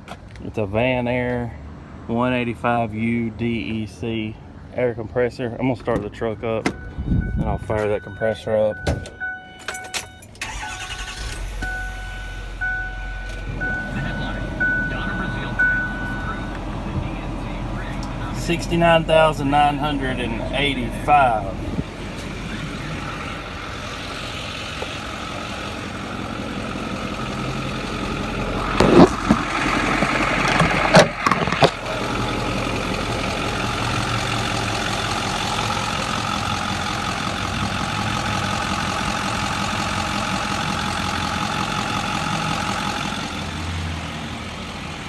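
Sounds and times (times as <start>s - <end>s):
diesel engine idling: 0.8s - 45.0s.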